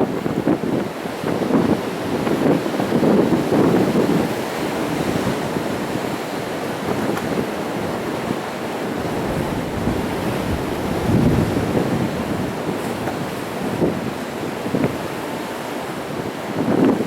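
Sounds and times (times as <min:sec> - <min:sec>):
waves breaking on rocks: 0:00.0 - 0:17.0.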